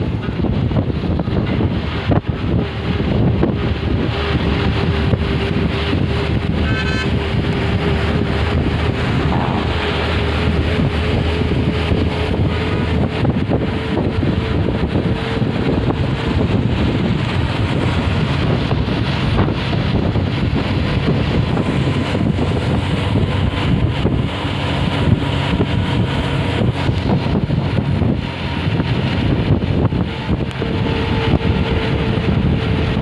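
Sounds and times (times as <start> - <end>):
bus engine: 0.0 - 33.0
road noise: 0.0 - 33.0
wind buffeting microphone: 0.0 - 33.0.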